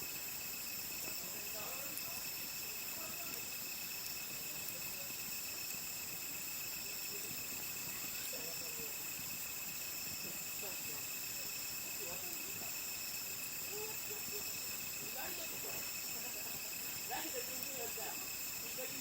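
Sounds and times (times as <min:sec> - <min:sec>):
crickets and insects trilling: 0:00.0 - 0:19.0
faint voices murmuring: 0:01.0 - 0:19.0.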